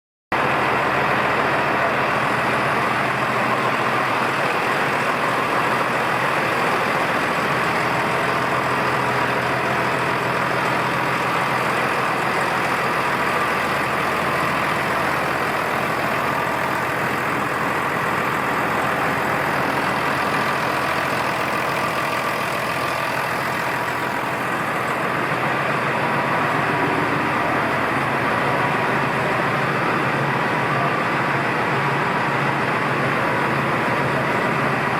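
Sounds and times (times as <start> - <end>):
tractor diesel engine idling: 0.3 - 34.9.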